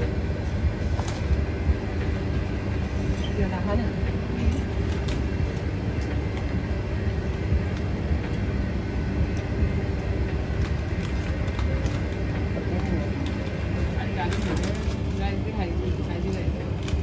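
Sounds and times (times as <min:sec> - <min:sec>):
faint hum: 0:00.0 - 0:17.0
low mechanical rumble: 0:00.0 - 0:17.0.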